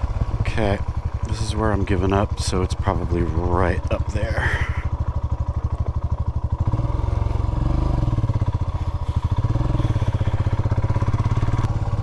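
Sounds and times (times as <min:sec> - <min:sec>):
single-cylinder motorcycle engine: 0:00.0 - 0:12.0.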